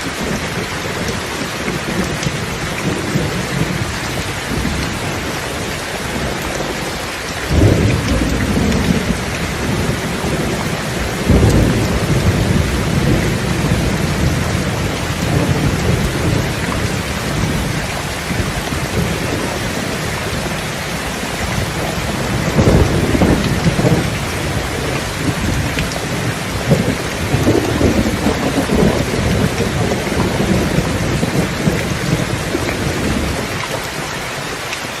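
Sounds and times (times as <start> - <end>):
heavy rain: 0.0 - 35.0
rolling thunder: 0.2 - 34.1.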